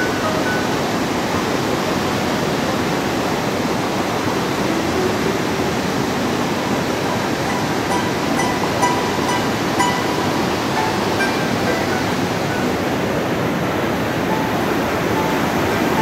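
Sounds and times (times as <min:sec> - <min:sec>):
white water rushing: 0:00.0 - 0:16.0.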